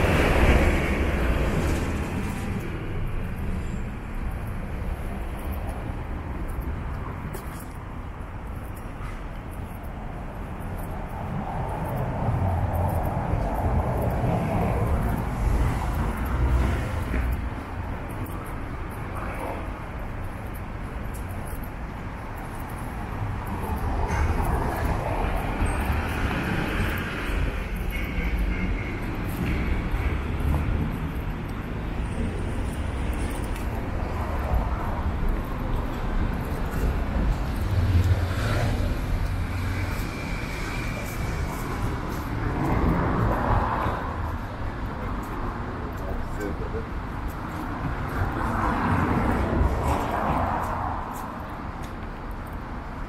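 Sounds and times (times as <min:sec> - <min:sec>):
street traffic rumble: 0:00.0 - 0:53.0
vehicle engine noise: 0:00.0 - 0:53.0.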